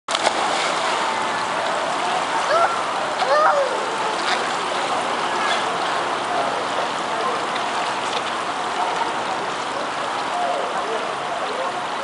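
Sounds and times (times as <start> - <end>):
water splashing and churning: 0.1 - 12.0.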